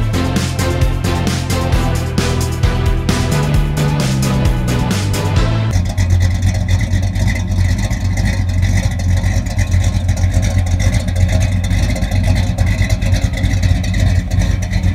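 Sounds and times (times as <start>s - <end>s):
car engine rumbling: 0.0s - 14.9s.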